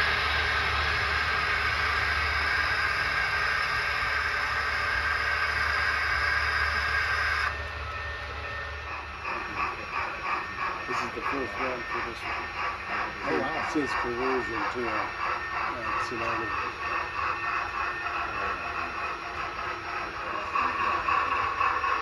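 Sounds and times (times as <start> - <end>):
model train running: 0.0 - 22.0.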